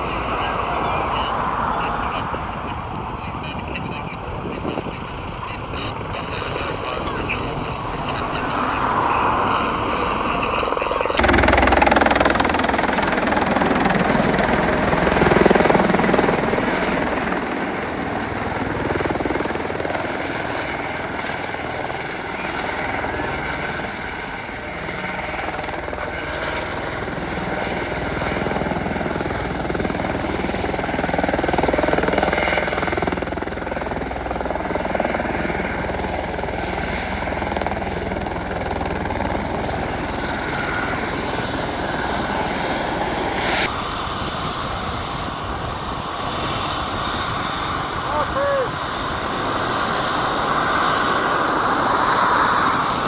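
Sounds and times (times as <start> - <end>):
helicopter rotor and turbine: 0.0 - 53.0.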